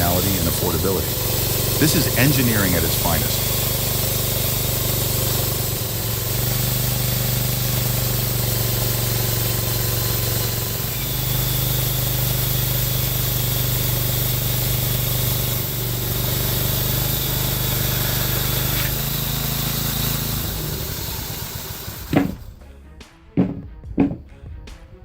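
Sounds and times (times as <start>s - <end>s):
chainsaw engine at high revs: 0.0s - 22.6s
hissy cutting noise: 0.0s - 22.6s.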